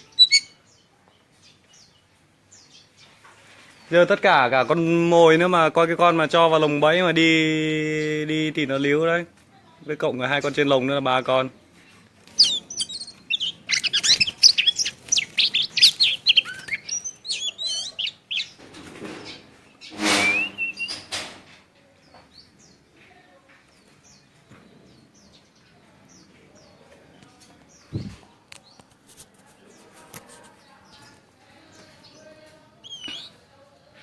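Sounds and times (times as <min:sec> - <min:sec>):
songbirds chirping and warbling: 0:00.0 - 0:34.0.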